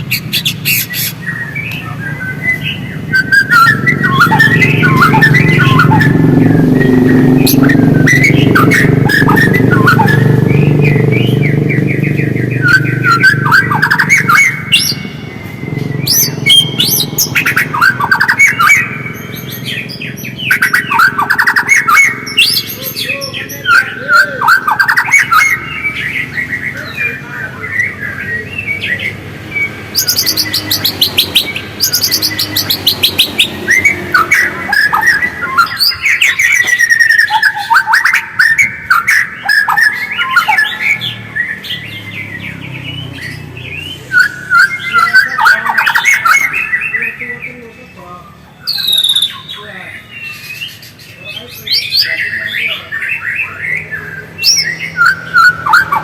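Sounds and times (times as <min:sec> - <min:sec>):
bird singing whistled phrases: 0:00.0 - 0:56.0.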